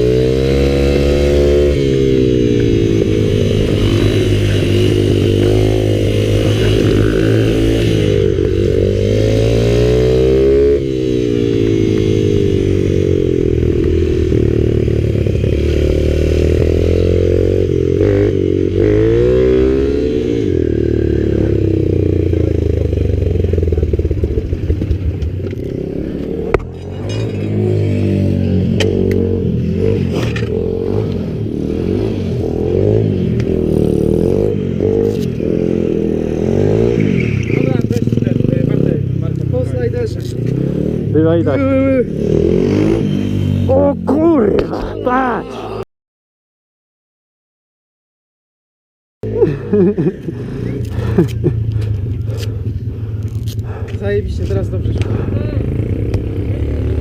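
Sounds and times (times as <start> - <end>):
mini bike engine revving: 0.0 - 39.1, 40.2 - 45.5, 49.4 - 57.0.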